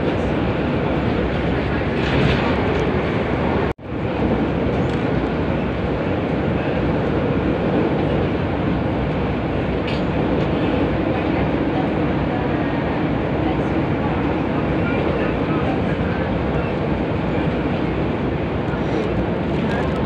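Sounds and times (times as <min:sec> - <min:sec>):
metro train rumbling on track: 0:00.0 - 0:20.0.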